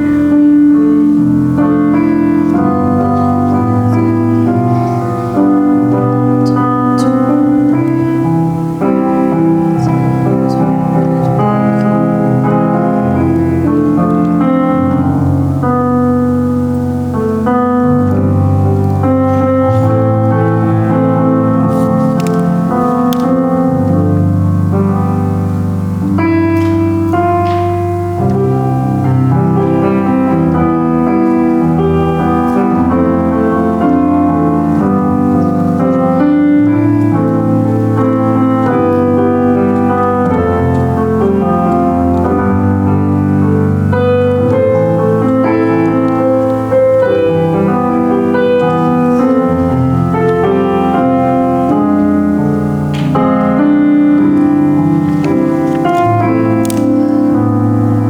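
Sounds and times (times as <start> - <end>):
solo piano worship song: 0.0 - 58.0.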